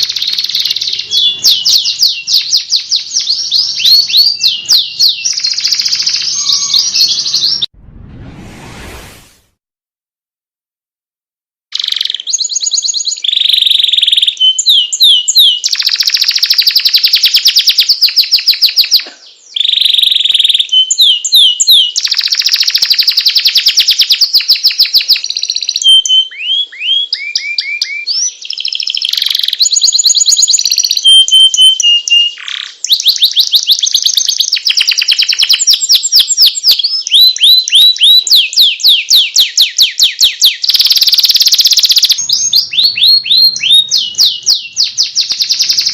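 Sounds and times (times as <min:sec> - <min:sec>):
canary singing trills: 0:00.0 - 0:07.7, 0:11.7 - 0:45.9.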